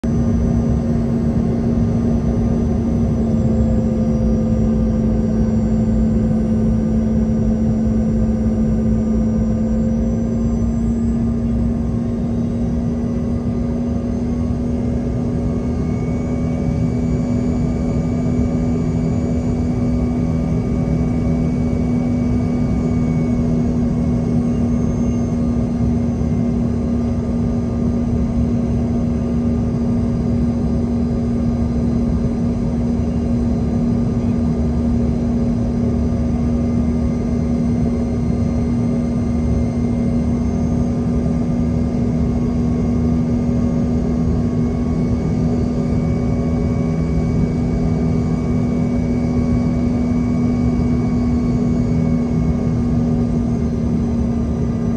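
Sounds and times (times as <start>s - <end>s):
jet engine cabin drone: 0.0s - 54.9s
faint high whines: 0.1s - 54.9s.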